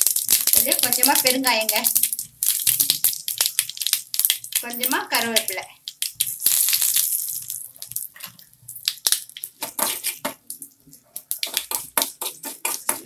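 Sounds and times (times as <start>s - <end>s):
leaves sizzling in hot oil: 0.0s - 13.0s
seeds popping and crackling: 0.0s - 13.0s.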